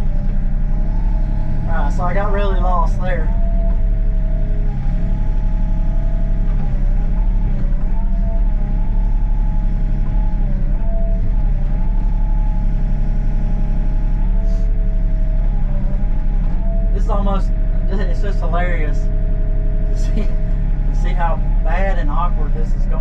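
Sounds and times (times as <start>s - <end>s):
diesel engine rumbling: 0.0s - 23.0s
hydraulic whine: 0.0s - 23.0s.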